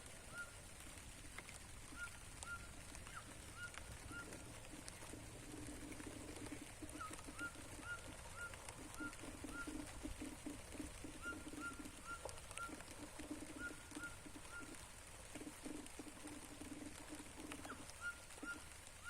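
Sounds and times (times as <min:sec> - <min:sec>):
low pulsing cooing call: 0:00.0 - 0:01.0, 0:01.7 - 0:19.0.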